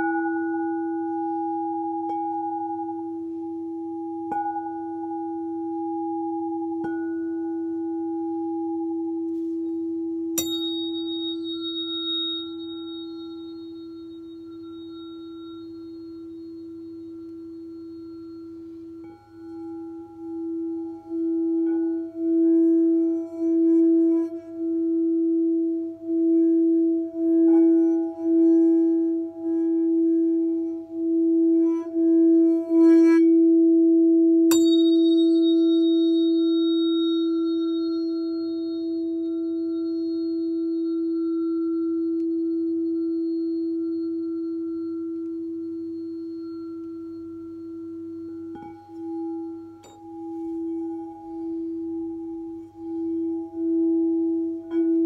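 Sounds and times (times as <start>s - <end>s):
singing bowl rim rubbed: 0.0s - 55.0s
singing bowl ringing: 0.0s - 55.0s.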